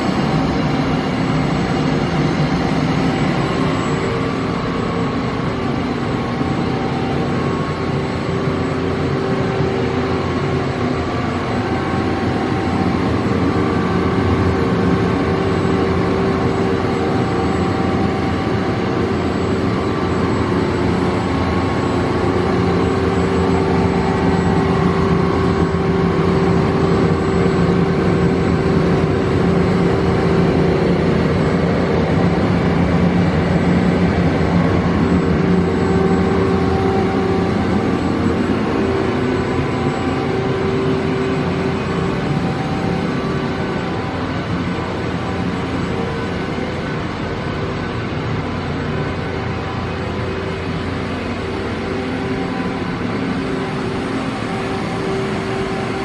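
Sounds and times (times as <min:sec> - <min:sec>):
machine hum and whine: 0:00.0 - 0:56.0.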